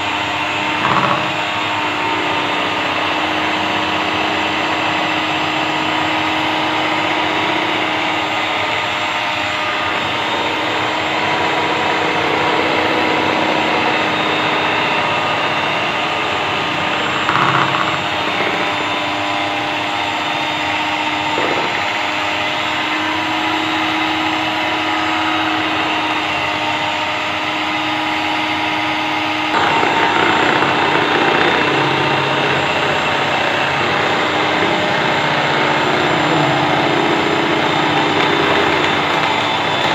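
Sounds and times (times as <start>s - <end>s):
electric mixer whining: 0.0s - 39.9s.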